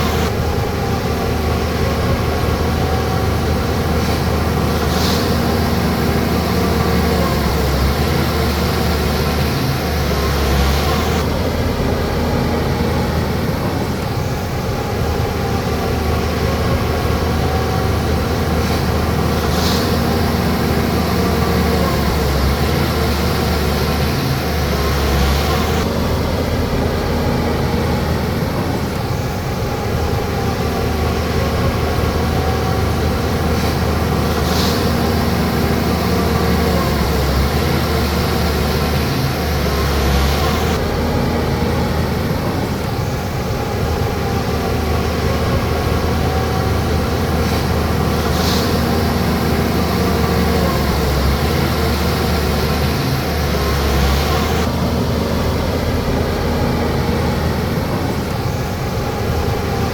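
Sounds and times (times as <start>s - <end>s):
bulldozer engine under load: 0.0s - 59.9s.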